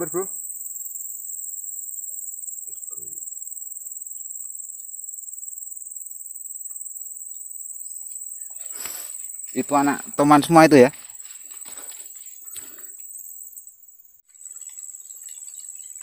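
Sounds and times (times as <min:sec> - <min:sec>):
insects chirping drone: 0:00.0 - 0:16.0.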